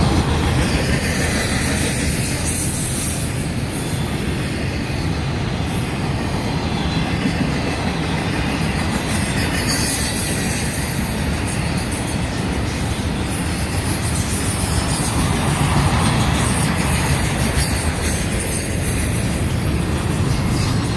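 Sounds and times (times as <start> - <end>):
freight train wheels rumbling on rail: 0.0 - 20.9.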